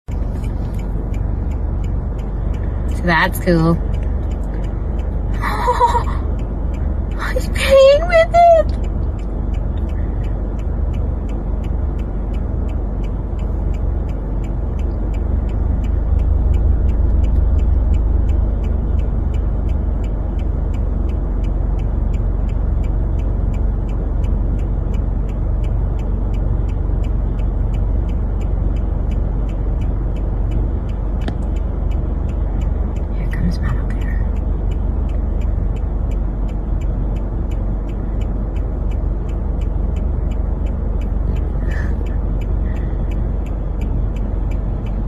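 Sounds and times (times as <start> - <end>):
fast even ticking: 0.1 - 45.0
vehicle engine idling: 0.1 - 45.0.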